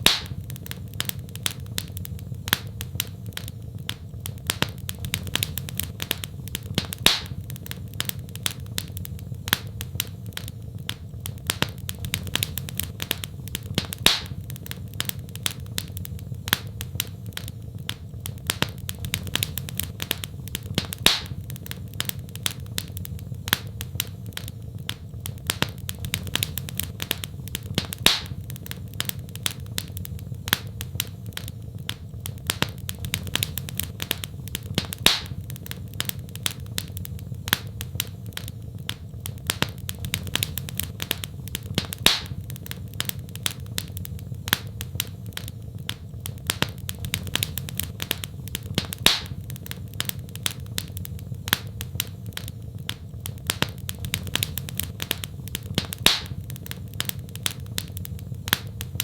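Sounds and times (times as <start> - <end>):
fire popping: 0.0 - 59.0
low rumble of flames: 0.0 - 59.0
wood fire crackling: 0.0 - 59.0.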